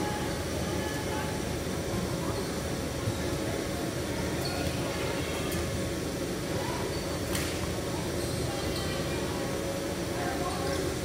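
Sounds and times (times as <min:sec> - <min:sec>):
murmur of basketball game: 0:00.0 - 0:11.0.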